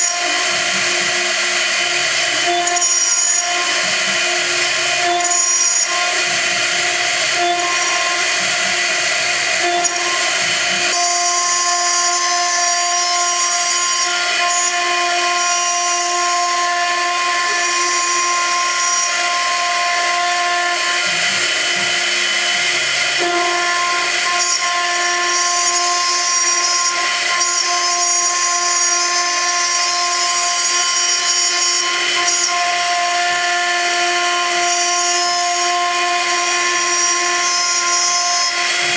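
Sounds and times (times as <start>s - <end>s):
hiss of cutting metal: 0.0s - 38.9s
milling machine spindle whine: 0.0s - 38.9s.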